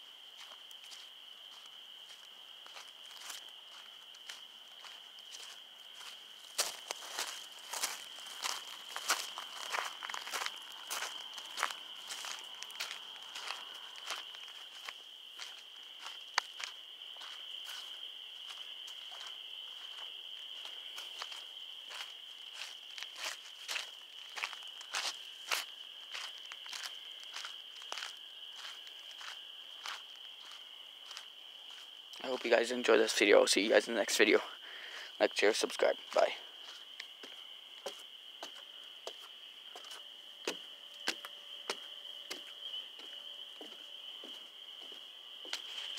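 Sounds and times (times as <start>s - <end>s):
insects trilling: 0.0s - 45.9s
soft footsteps: 0.3s - 32.5s, 35.9s - 45.9s.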